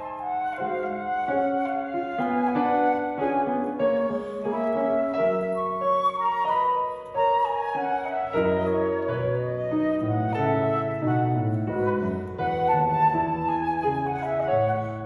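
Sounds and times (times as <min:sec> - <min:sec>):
flute melody: 0:00.0 - 0:15.0
piano accompaniment: 0:00.0 - 0:15.0.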